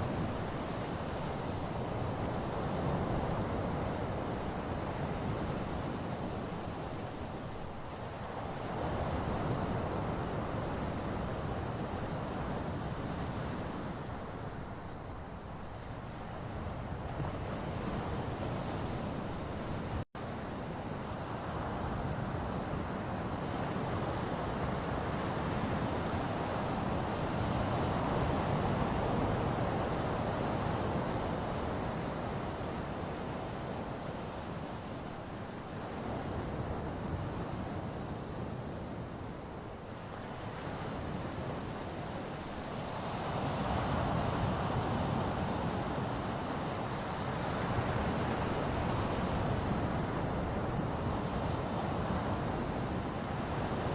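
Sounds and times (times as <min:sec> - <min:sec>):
ocean waves washing ashore: 0:00.0 - 0:53.9.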